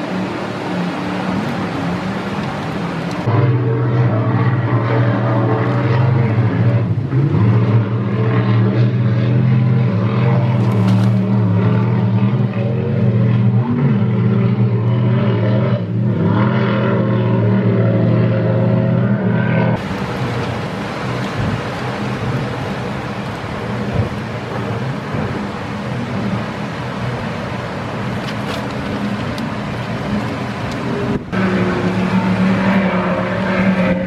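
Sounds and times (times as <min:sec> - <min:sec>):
powerboat engines droning: 0:00.0 - 0:34.0.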